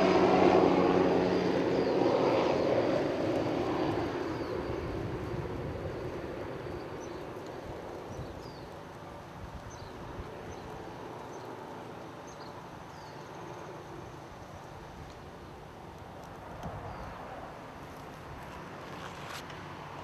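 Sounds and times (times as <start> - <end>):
aircraft drone: 0.0 - 20.0.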